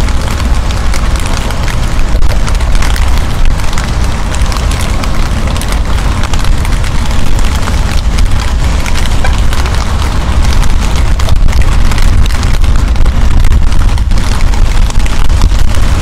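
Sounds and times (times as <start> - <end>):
rain hissing and pattering: 0.0 - 16.0
wind buffeting microphone: 0.0 - 16.0.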